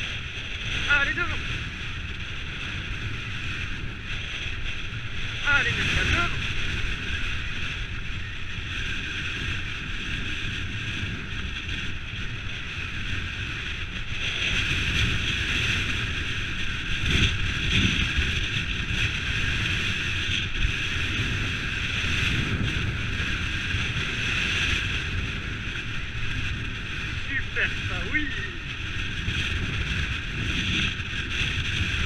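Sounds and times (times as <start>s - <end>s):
bike tyres rumbling on dirt: 0.0s - 32.0s
wind on microphone: 0.0s - 32.0s.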